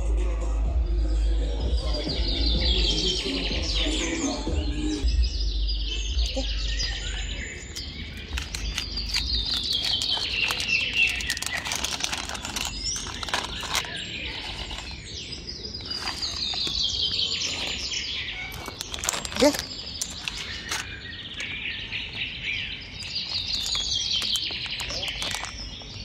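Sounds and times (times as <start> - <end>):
small birds chirping: 1.0 - 26.0.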